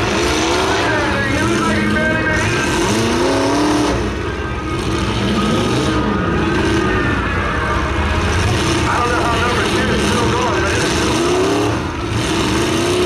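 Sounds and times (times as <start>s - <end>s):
car engines revving: 0.0s - 13.0s
low engine rumble: 0.0s - 13.0s.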